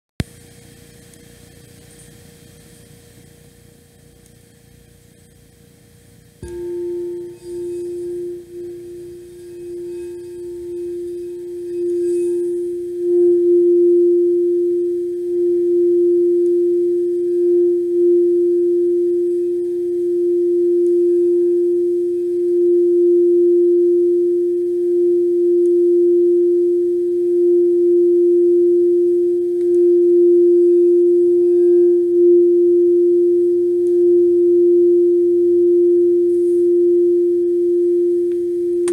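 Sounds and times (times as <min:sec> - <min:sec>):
crystal singing bowl tone: 0:06.4 - 0:38.9.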